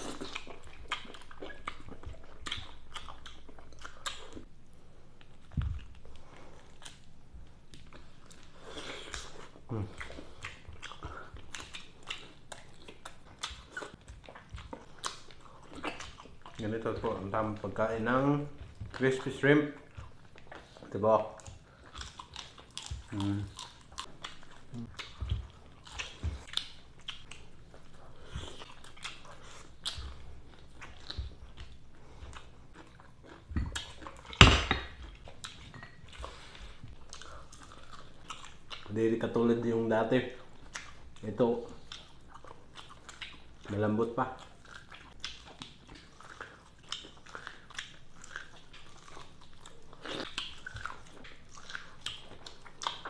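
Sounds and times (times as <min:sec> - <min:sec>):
chewing crispy fried shrimp: 0:00.0 - 0:04.5, 0:05.2 - 0:34.4, 0:35.0 - 0:53.0.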